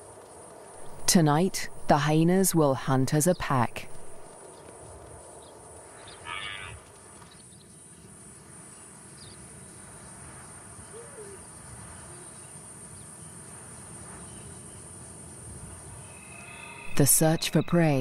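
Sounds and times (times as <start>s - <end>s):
insects chirping chorus: 0.0s - 18.0s.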